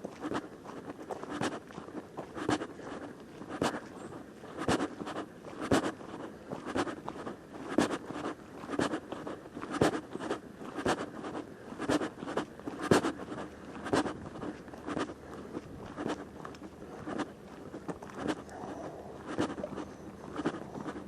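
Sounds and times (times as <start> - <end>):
footsteps crunching on dirt trail: 0.0 - 21.0.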